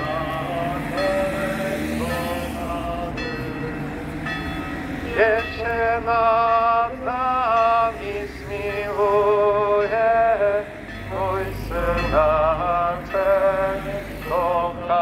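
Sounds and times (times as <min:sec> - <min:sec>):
slow hymn singing: 0:00.0 - 0:15.0.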